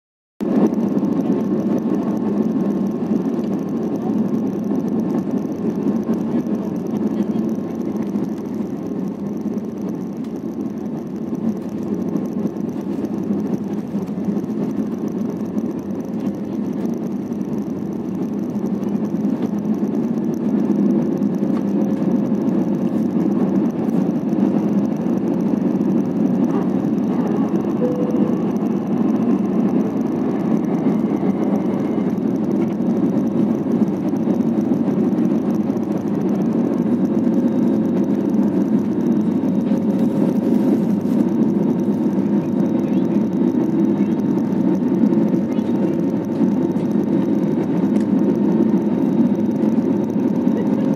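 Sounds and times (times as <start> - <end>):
jet engines at takeoff thrust: 0.4 - 50.9.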